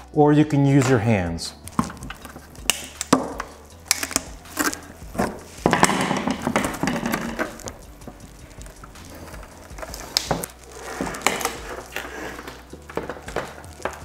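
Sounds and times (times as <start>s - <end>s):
plastic lens crackling and popping: 1.6s - 14.0s.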